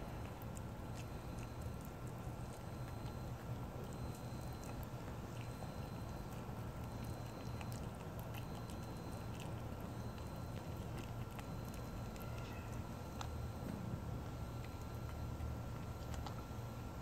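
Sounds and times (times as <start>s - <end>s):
kitten chewing wet food: 0.0s - 17.0s
steady low hum: 0.0s - 17.0s.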